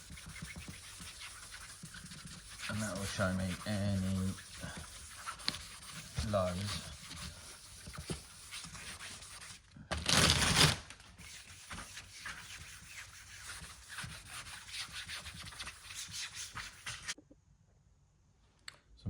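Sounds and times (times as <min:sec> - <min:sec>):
hand sanding with sandpaper: 0:00.0 - 0:09.6, 0:11.2 - 0:17.2.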